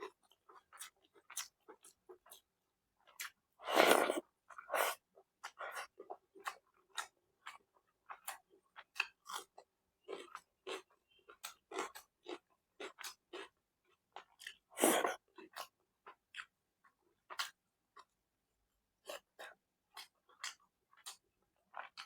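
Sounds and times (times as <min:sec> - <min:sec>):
person chewing food: 0:00.0 - 0:18.2, 0:19.0 - 0:22.0.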